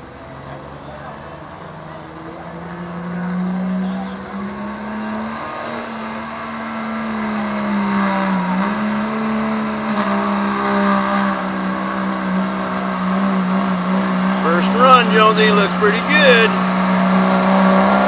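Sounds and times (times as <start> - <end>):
diesel truck engine at full throttle: 0.0 - 18.0.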